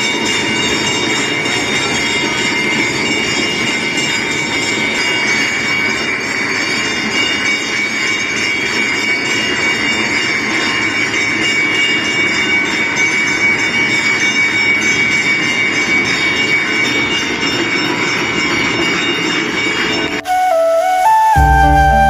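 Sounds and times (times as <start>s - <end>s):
brass bell ringing continuously: 0.0s - 20.2s.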